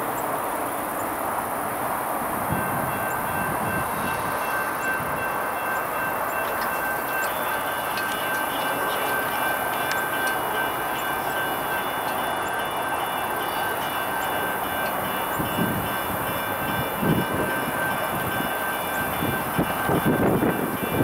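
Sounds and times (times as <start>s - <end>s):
diesel locomotive engine: 0.0s - 21.0s
wheel flanges squealing: 2.5s - 21.0s.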